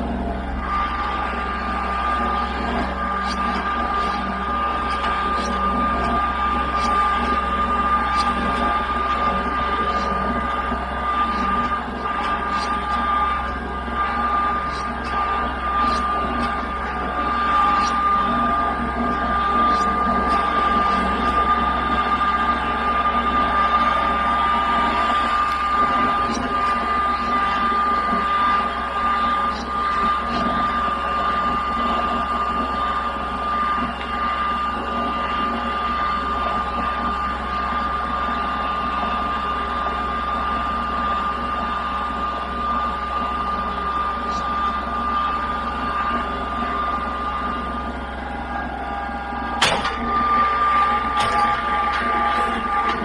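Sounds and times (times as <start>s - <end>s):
machine whining over hum: 0.0s - 53.0s.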